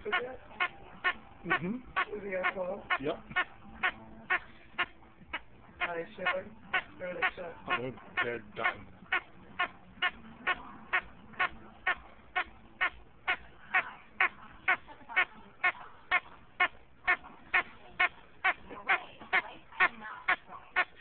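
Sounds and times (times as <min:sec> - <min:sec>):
squeaky toy squeaks: 0:00.0 - 0:21.0.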